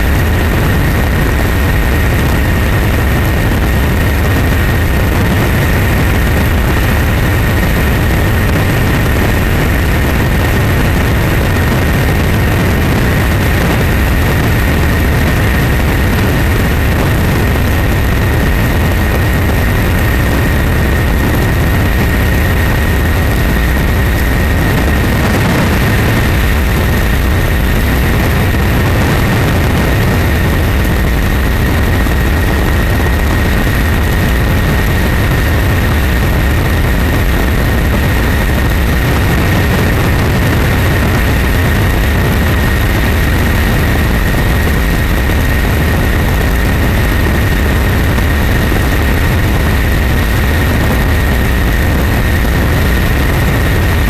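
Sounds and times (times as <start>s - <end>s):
constant high whine: 0.0s - 54.0s
loud steady engine noise: 0.0s - 54.0s.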